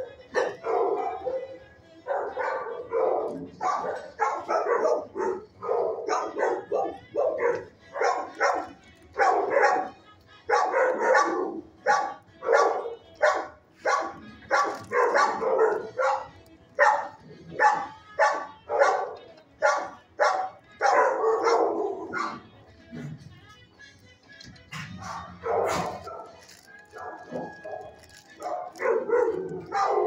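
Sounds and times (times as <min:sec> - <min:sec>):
dogs barking: 0:00.0 - 0:23.2, 0:24.7 - 0:30.0.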